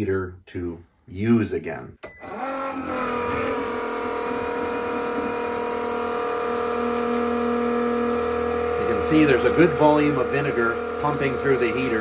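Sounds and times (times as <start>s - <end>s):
pump motor whine: 2.0s - 12.0s.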